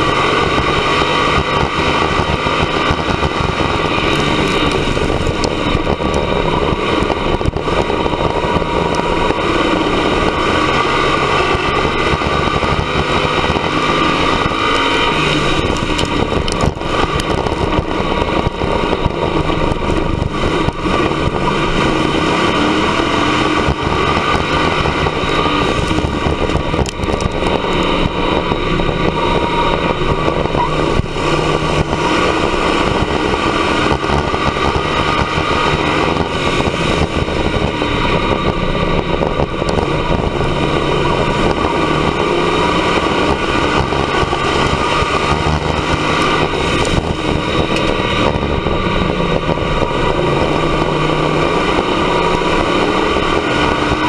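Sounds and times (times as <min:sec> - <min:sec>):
race car engine revving: 0:00.0 - 0:54.0
tyre and wind noise: 0:00.0 - 0:54.0.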